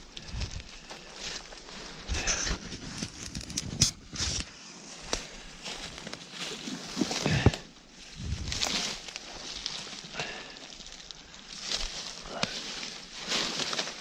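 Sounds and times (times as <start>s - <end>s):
footsteps rustling through dry leaves: 0.0s - 3.3s, 4.5s - 14.0s.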